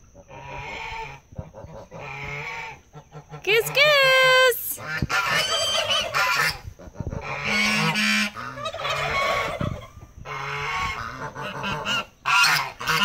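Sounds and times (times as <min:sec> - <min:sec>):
geese honking: 0:00.2 - 0:13.0.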